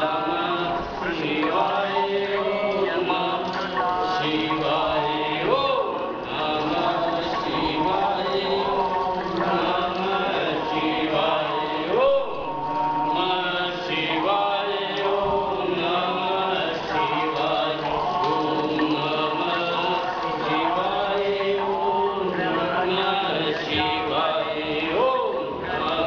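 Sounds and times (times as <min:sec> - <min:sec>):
voices chanting: 0:00.0 - 0:26.0.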